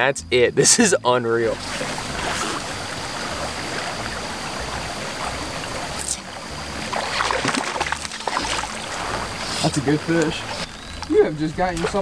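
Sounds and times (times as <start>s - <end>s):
creek water running: 0.0s - 12.0s
water splashing: 1.4s - 12.0s.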